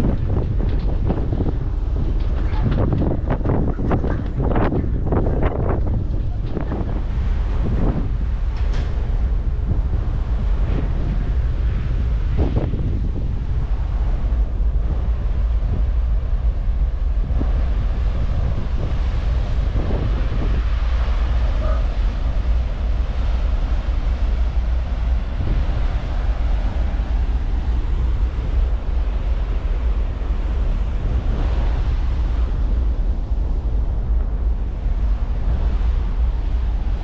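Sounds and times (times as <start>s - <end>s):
ferry engine low rumble: 0.0s - 37.0s
wake water rushing: 0.0s - 37.0s
wind buffeting microphone: 0.0s - 37.0s.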